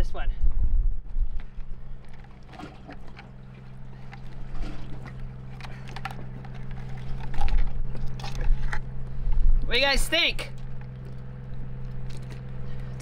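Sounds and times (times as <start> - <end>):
low mechanical hum: 0.0 - 13.0
crabs clicking and scraping: 1.3 - 9.4, 10.4 - 13.0.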